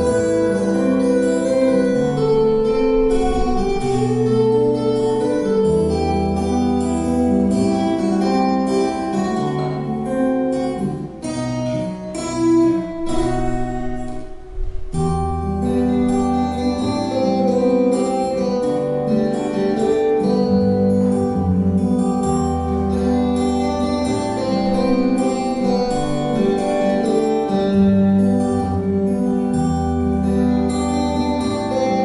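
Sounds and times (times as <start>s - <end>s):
acoustic guitar duet: 0.0s - 32.0s.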